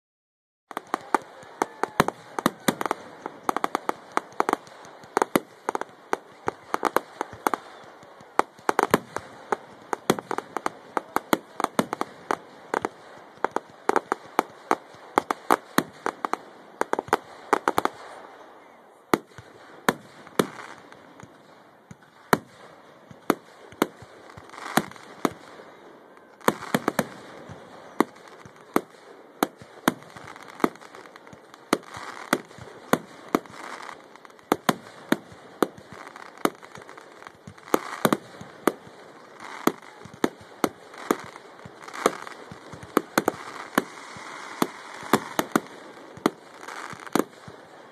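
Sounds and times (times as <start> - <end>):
firework bangs: 0.7 - 18.4, 19.1 - 47.9
firework crackling: 0.7 - 18.4, 19.1 - 47.9.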